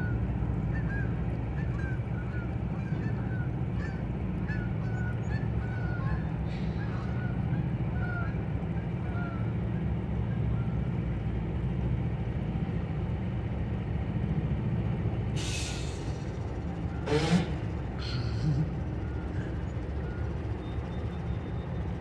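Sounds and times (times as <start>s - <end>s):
diesel locomotives rumbling: 0.0s - 22.0s.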